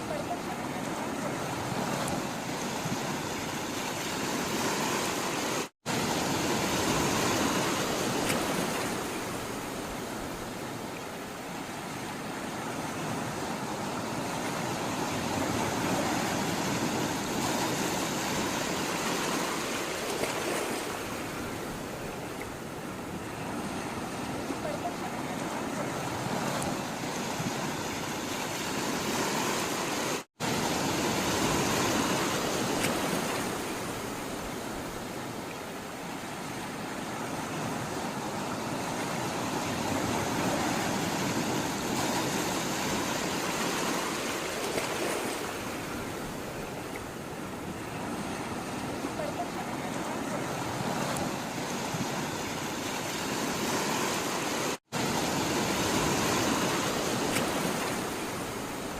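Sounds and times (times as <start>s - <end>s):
sea waves washing: 0.0s - 58.9s.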